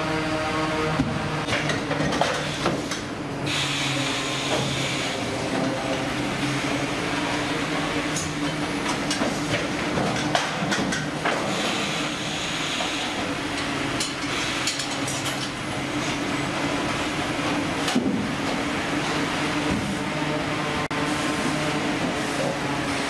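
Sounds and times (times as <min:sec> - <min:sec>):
conveyor and machine motors humming: 0:00.0 - 0:23.0.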